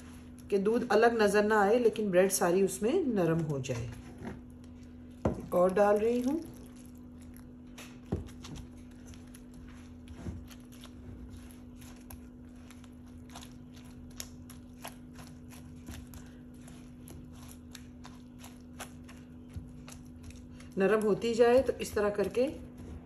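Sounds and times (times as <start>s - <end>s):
spatula squelching soaked bread: 0.0s - 23.0s.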